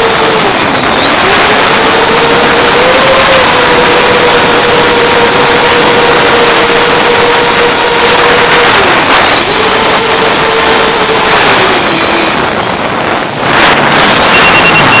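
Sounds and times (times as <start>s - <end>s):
drone motors and propellers whining: 0.0s - 15.0s
loud rush of noise: 0.0s - 15.0s.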